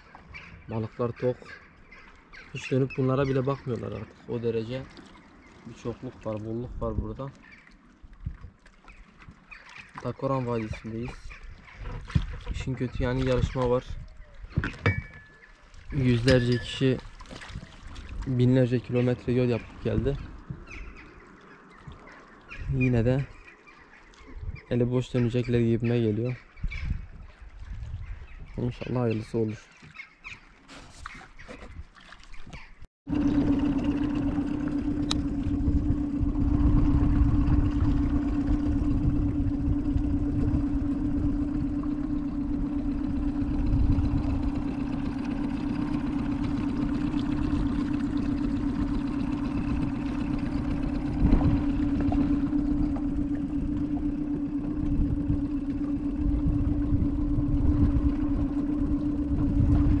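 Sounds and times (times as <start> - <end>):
motorboat engine running: 0.0 - 60.0.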